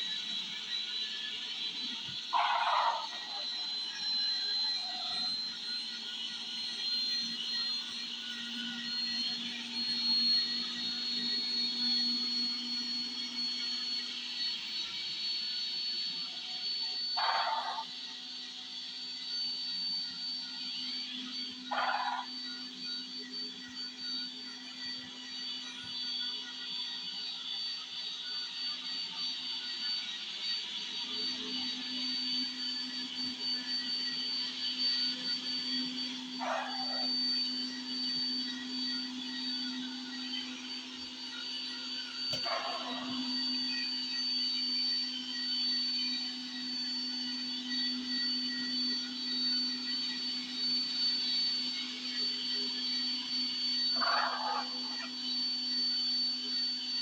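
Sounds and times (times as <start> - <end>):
robot vacuum motor whine: 0.0 - 57.0.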